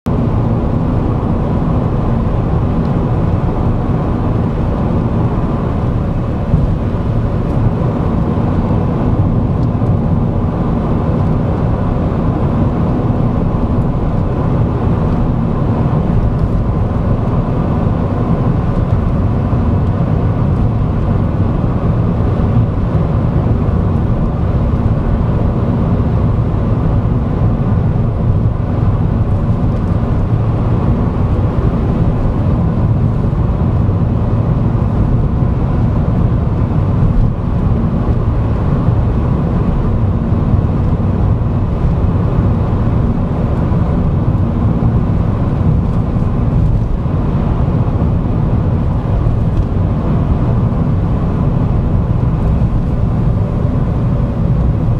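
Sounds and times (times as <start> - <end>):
engine and road rumble in car: 0.0 - 54.9.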